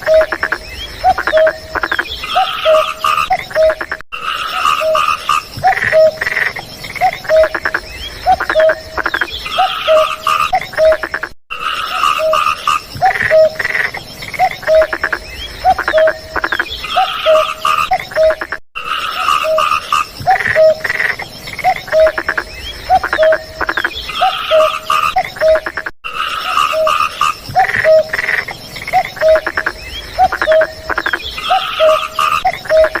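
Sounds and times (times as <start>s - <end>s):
frogs croaking: 0.0s - 33.0s
frogs trilling: 0.0s - 33.0s.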